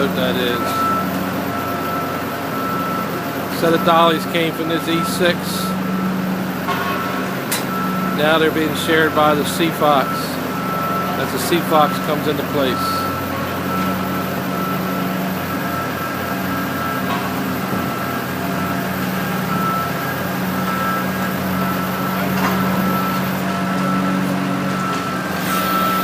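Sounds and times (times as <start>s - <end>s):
reversing alarm beeping: 0.0s - 26.0s
vehicle engine running: 0.0s - 26.0s.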